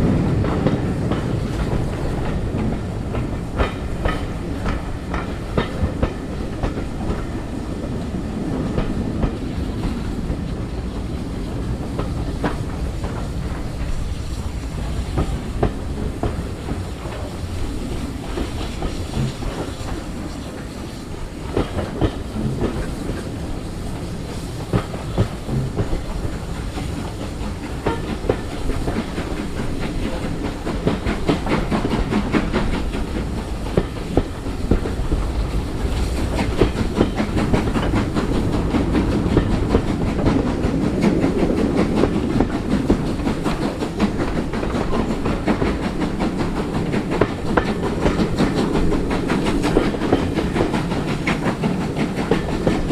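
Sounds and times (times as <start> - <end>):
train wheels clicking on rails: 0.0 - 52.9.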